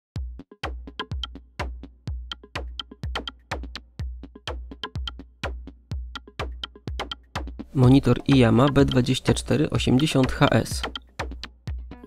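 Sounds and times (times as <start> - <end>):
electronic music with drum-machine beat: 0.2 - 12.0
sharp clicking percussion: 1.0 - 3.8, 4.5 - 11.6.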